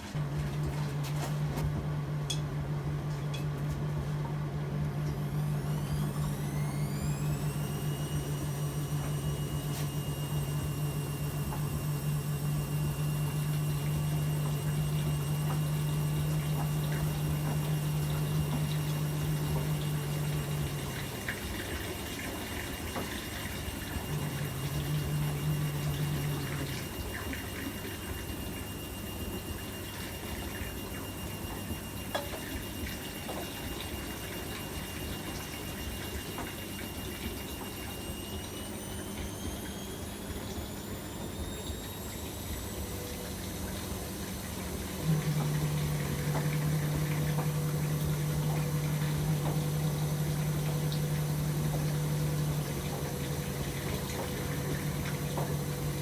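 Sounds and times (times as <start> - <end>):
pump humming: 0.0 - 56.0
washing machine motor and sloshing: 0.0 - 56.0.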